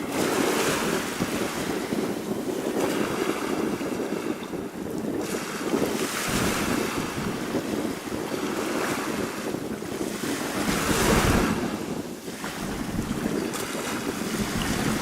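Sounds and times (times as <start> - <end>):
waves washing over pebbles: 0.0 - 15.0
wind buffeting microphone: 0.0 - 15.0.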